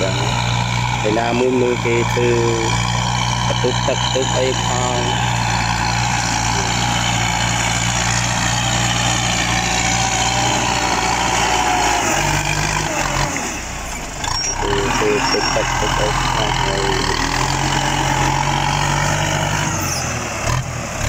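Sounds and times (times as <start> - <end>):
tractor engine running under load: 0.0 - 21.0.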